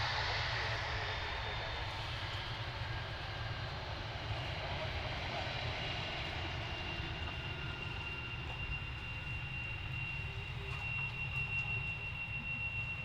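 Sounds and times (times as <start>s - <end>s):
distant jet engine whine: 0.0s - 13.0s.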